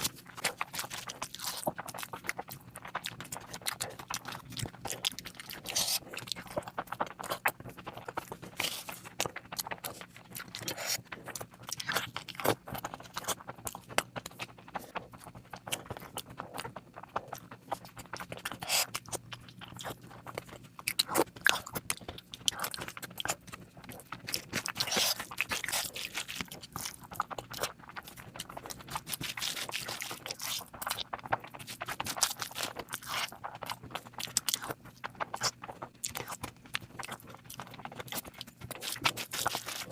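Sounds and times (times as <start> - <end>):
chewing with wet mouth smacks: 0.0 - 39.9.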